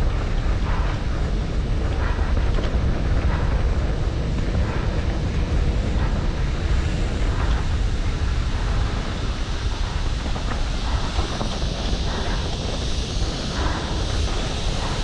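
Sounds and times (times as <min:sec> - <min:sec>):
low rumble: 0:00.0 - 0:15.0
wind rushing over microphone: 0:00.0 - 0:15.0.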